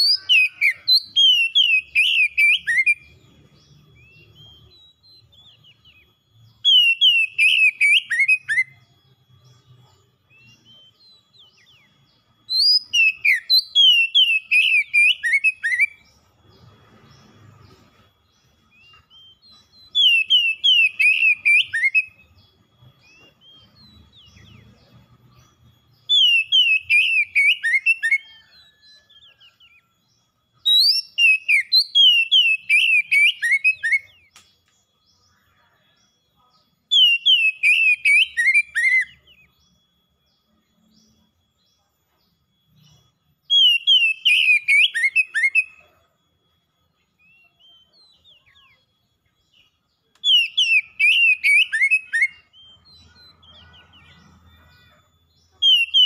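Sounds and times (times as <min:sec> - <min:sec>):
magpie-robin singing: 0:00.0 - 0:56.0.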